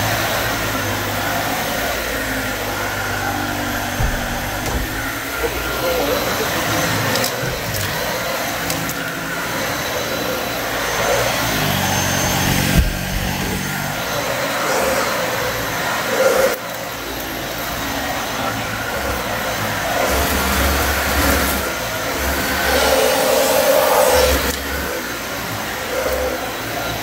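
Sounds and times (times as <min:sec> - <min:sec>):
vacuum cleaner running over carpet: 0:00.0 - 0:27.0.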